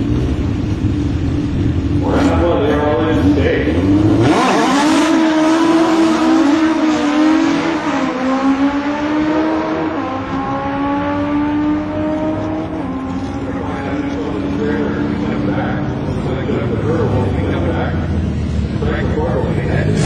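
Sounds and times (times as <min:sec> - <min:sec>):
race car engines revving hard: 0:00.0 - 0:20.0.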